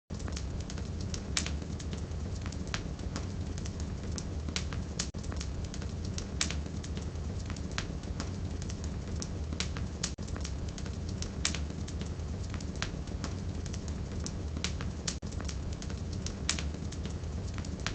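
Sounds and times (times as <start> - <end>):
fire popping: 0.1 - 17.9
firewood crackling: 0.1 - 17.9
low rumble of fire: 0.1 - 17.9.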